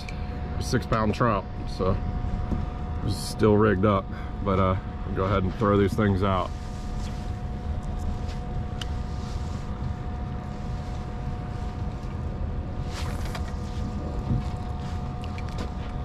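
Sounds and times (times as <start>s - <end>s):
electric trolling motor humming: 0.0s - 16.0s
wind rumble on microphone: 0.0s - 16.0s.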